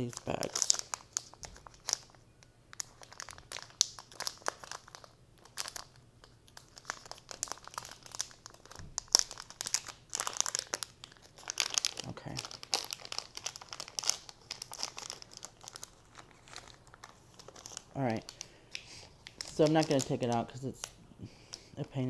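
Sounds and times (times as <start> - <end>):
plastic bags crinkling: 0.0 - 20.9.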